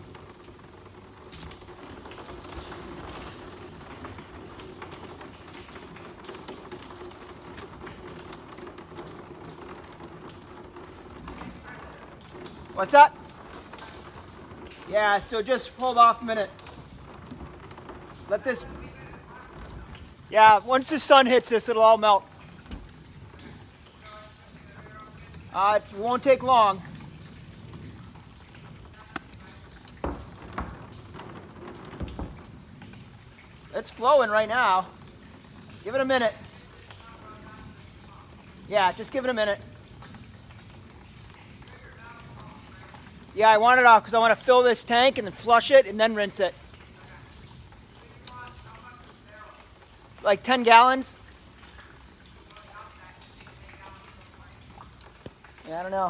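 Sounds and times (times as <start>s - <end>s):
water trickling into plastic tank: 0.0s - 56.0s.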